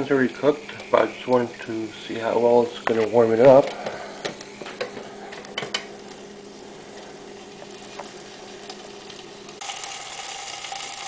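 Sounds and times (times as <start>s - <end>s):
chicken sizzling in a grill: 0.0s - 11.0s
faint steady hum: 0.0s - 11.0s.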